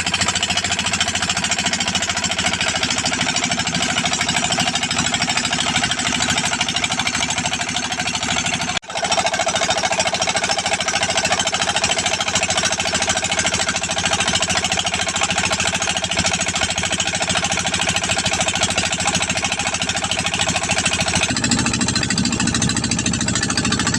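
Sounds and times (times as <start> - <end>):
small engine running: 0.0 - 23.9.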